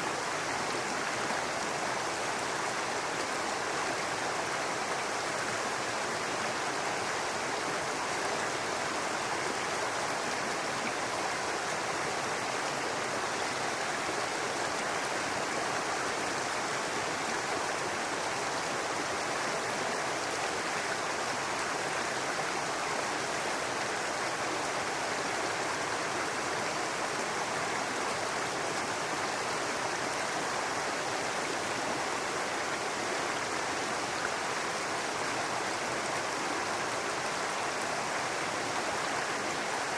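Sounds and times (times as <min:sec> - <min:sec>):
brook running water: 0:00.0 - 0:39.9.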